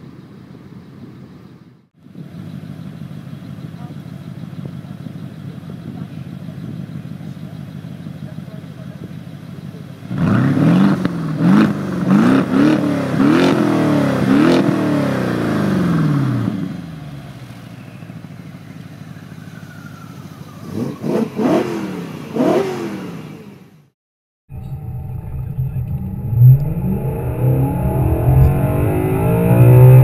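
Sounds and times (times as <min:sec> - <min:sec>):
car engine idling: 0:00.0 - 0:23.9, 0:24.5 - 0:30.0
car engine revving: 0:04.2 - 0:23.9, 0:24.5 - 0:30.0.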